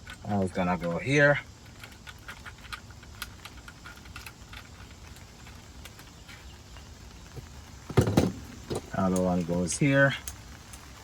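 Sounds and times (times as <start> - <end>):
hose fittings clicking and tapping: 0.0 - 11.0.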